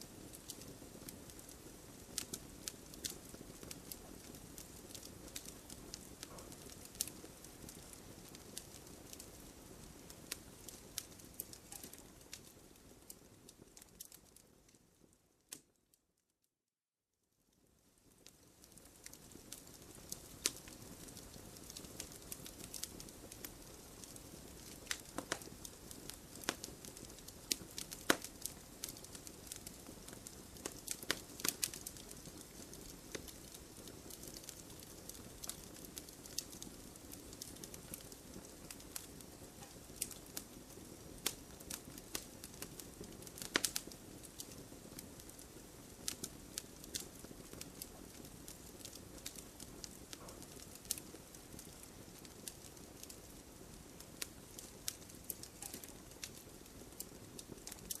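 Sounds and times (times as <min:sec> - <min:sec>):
wood fire popping and snapping: 0:00.0 - 0:15.8, 0:17.6 - 0:58.0
low fire hiss: 0:00.0 - 0:16.0, 0:17.3 - 0:58.0.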